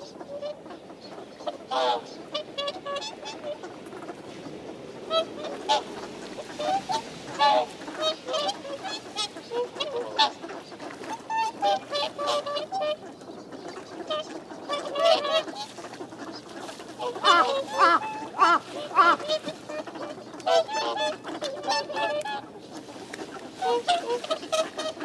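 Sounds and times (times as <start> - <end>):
swans honking: 0.0 - 25.0.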